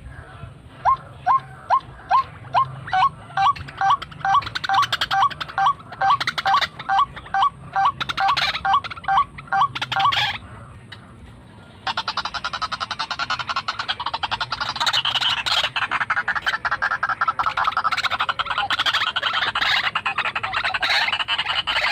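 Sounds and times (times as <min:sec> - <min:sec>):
rapid rattling bird calls: 0:00.0 - 0:21.9.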